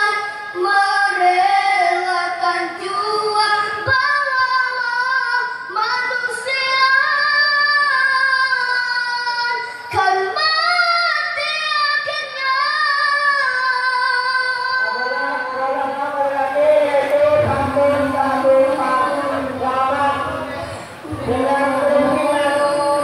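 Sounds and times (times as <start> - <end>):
children singing in unison: 0.0 - 23.0.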